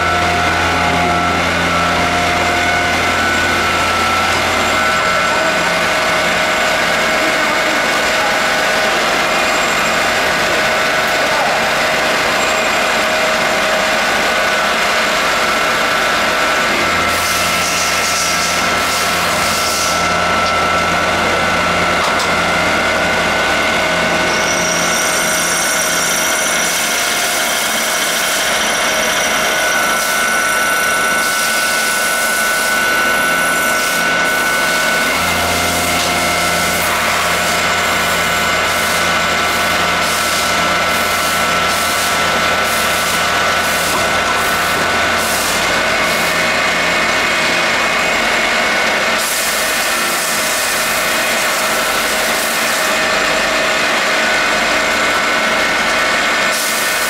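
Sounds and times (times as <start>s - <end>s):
lathe whirring and whining: 0.0s - 57.0s.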